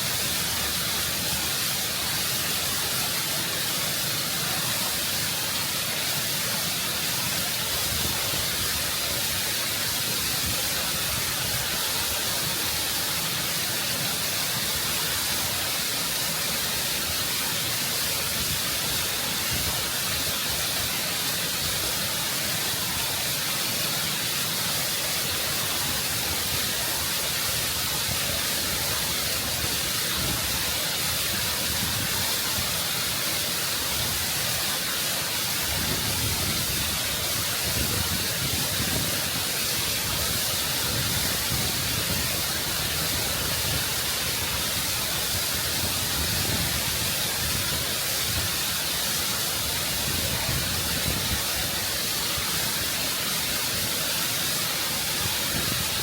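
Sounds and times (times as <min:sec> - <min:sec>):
waterfall cascading over rock: 0:00.0 - 0:56.0.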